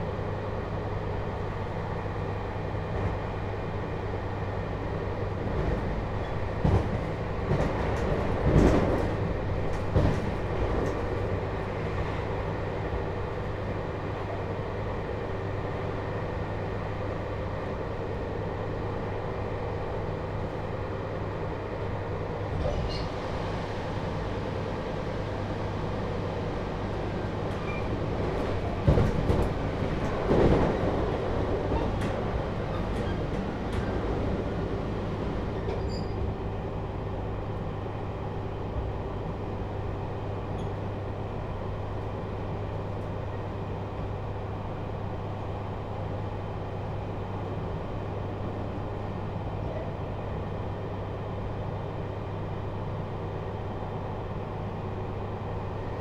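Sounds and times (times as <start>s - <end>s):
train cabin rumble and hum: 0.0s - 56.0s.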